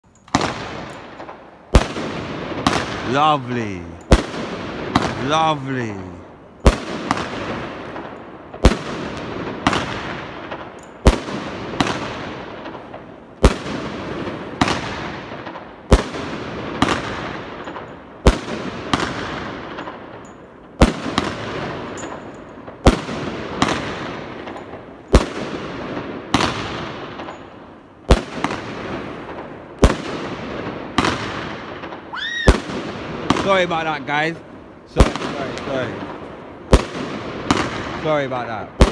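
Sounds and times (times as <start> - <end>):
firework bangs: 0.3 - 38.9.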